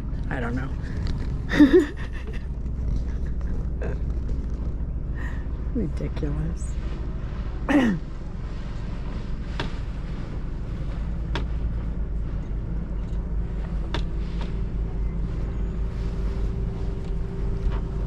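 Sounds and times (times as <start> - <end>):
motorboat engine rumbling: 0.0 - 18.0.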